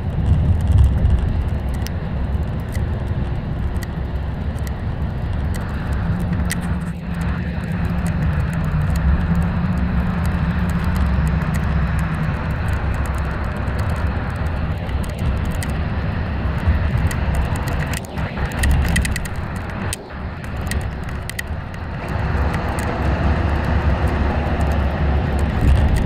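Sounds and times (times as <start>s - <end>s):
coach engine drone: 0.0s - 26.0s
tyre road noise: 0.0s - 26.0s
light clicks: 0.2s - 15.9s, 16.5s - 26.0s.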